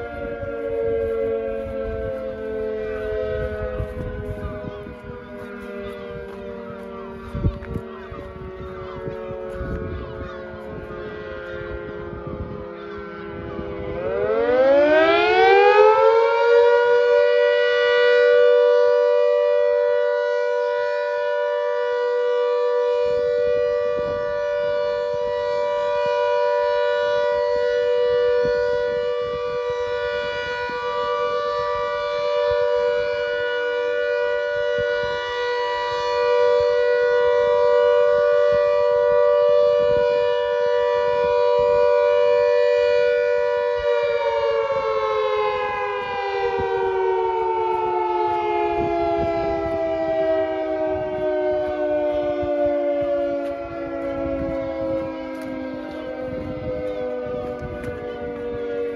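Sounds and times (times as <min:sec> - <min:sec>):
electro-mechanical siren blast: 0:00.0 - 0:58.9.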